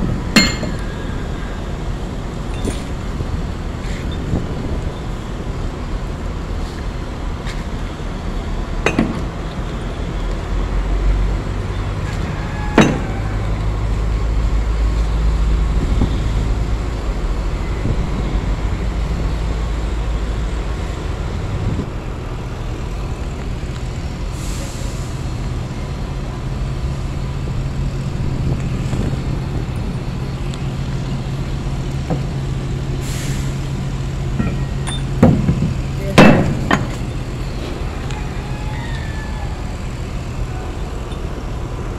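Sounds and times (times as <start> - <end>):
machinery droning: 0.0 - 41.9.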